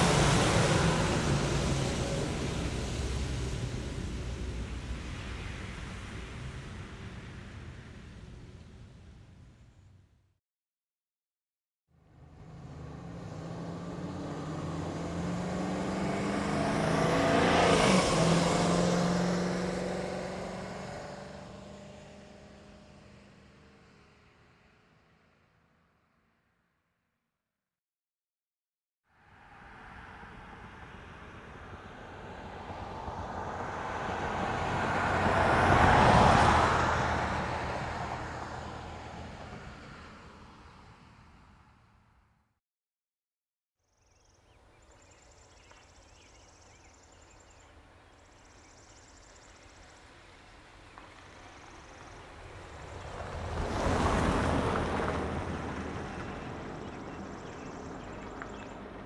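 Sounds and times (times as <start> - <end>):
car passing by: 0.0 - 9.3, 12.0 - 25.0, 29.2 - 42.0, 45.0 - 59.0.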